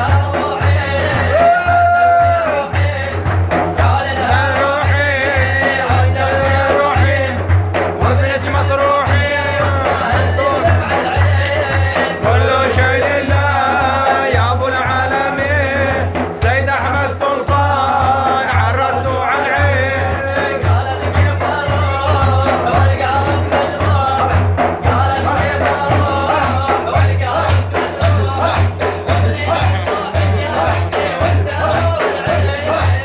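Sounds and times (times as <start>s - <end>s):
person singing: 0.0s - 33.0s
repeating drum beat: 0.0s - 33.0s.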